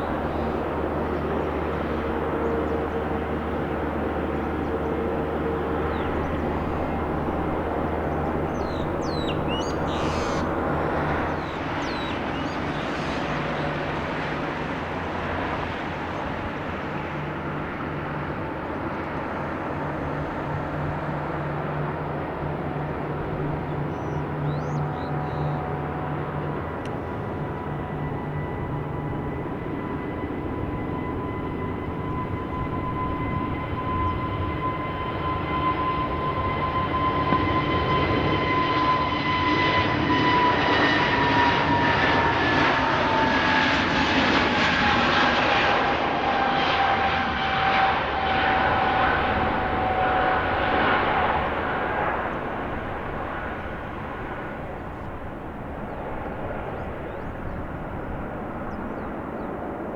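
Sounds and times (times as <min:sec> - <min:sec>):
jet airliner passing: 0:00.0 - 0:59.9.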